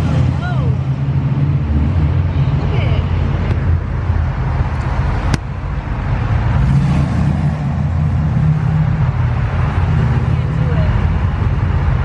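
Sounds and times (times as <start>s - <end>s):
car road rumble: 0.0s - 12.0s.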